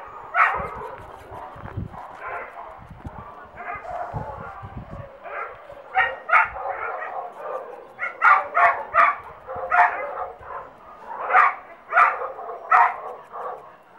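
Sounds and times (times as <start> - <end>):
dog barking: 0.1 - 13.8.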